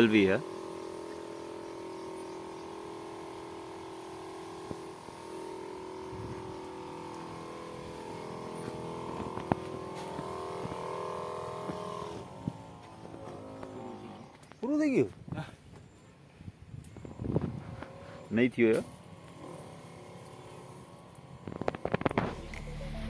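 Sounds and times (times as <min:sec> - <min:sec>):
machine hum: 0:00.0 - 0:14.4, 0:18.9 - 0:23.0.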